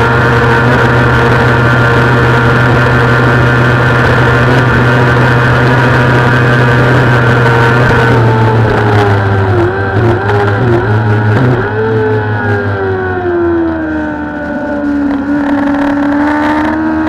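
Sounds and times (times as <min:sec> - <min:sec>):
motorcycle engine running loud: 0:00.0 - 0:17.0
wind noise: 0:00.0 - 0:17.0.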